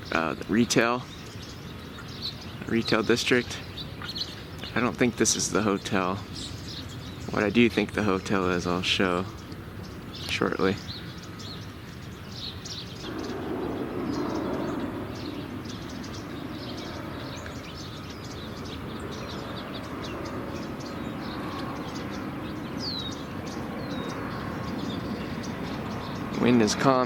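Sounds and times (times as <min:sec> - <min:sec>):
bird chirps: 0:00.0 - 0:27.0
steady low rumble: 0:00.0 - 0:27.0.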